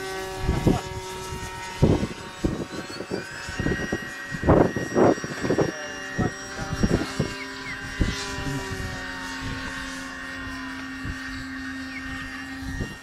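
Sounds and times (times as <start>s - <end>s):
model aeroplane motor running: 0.0s - 13.0s
wind buffeting microphone: 0.0s - 13.0s.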